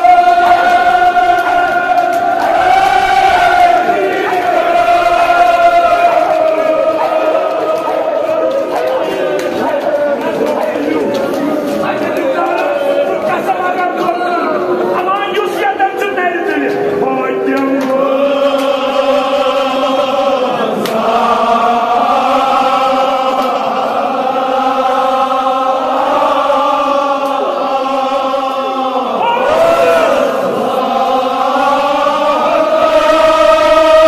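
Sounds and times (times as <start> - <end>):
men chanting an elegy: 0.0 - 34.0.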